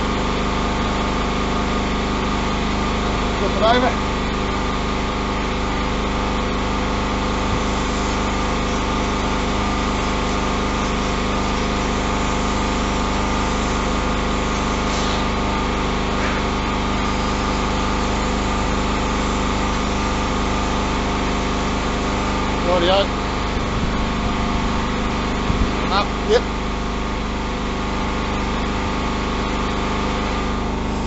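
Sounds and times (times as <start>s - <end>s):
electric shears humming: 0.0s - 31.0s.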